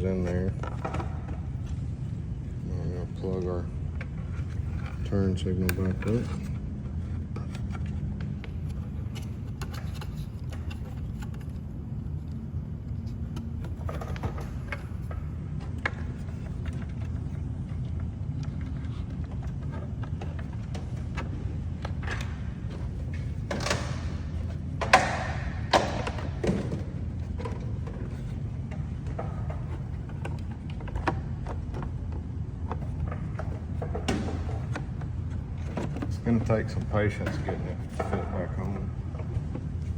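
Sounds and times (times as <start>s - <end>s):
steady low hum: 0.0s - 39.9s
plastic scraping and knocking: 0.2s - 1.9s, 3.2s - 39.9s.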